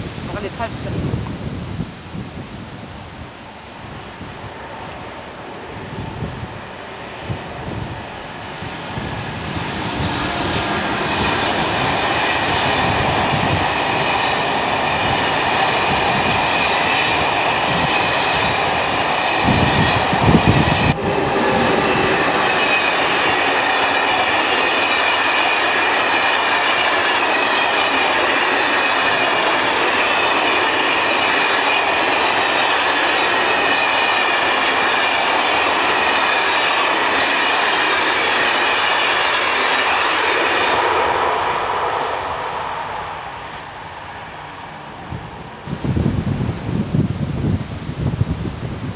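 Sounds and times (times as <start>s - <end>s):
train wheels rolling on rail: 0.0s - 48.9s.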